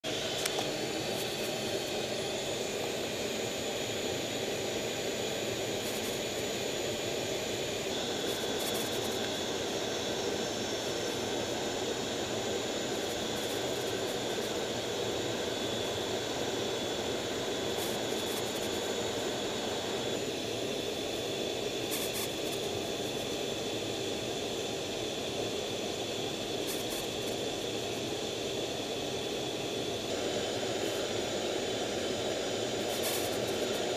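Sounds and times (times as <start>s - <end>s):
high-pitched turbine whine: 0.0s - 33.9s.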